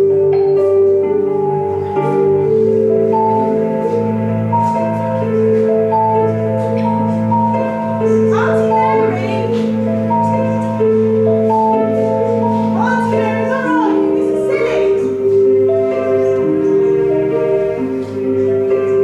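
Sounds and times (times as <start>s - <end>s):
slow melody of held notes: 0.0s - 19.0s.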